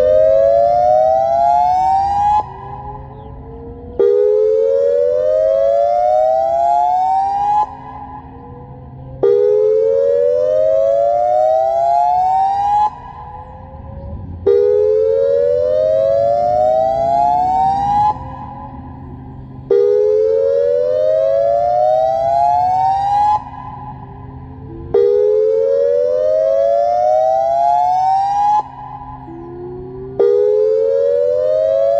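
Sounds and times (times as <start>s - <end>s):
warning siren rising sweeps: 0.0s - 31.9s.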